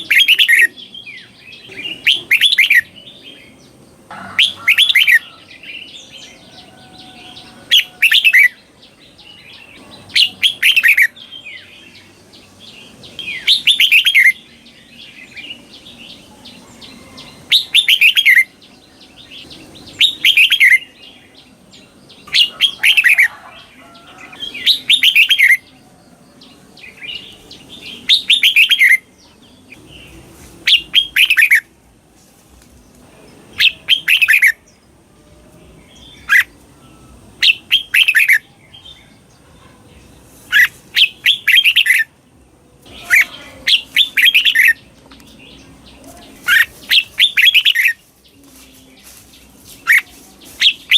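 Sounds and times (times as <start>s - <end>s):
bulbul singing: 0.0s - 31.9s, 32.7s - 50.9s.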